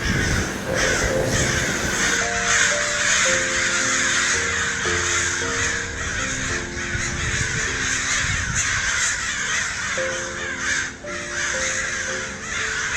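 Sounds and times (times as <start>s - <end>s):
music with held notes: 0.0s - 8.6s, 9.4s - 12.9s
flock of birds calling: 0.0s - 12.9s.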